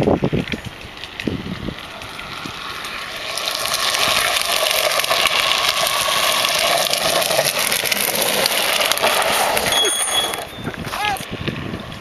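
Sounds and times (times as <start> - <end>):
wheels grinding on tarmac: 0.0 - 12.0.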